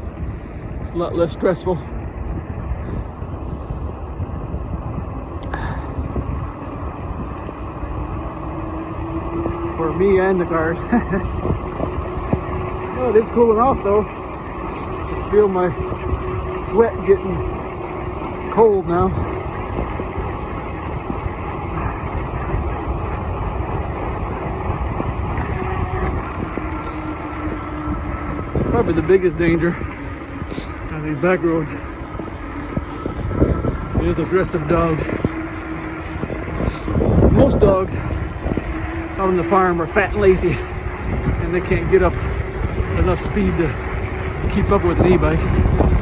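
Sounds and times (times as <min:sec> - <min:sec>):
bike tires rumbling on rough road: 0:00.0 - 0:46.0
wind buffeting microphone: 0:00.0 - 0:46.0.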